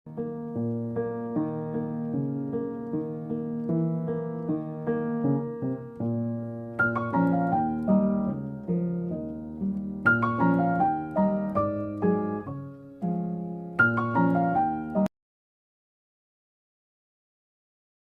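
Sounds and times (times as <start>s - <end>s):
background piano music: 0.1s - 15.1s.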